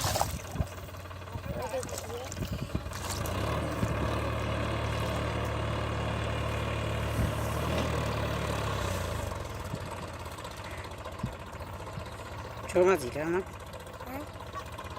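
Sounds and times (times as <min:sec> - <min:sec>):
tractor diesel engine droning: 0:00.0 - 0:14.9.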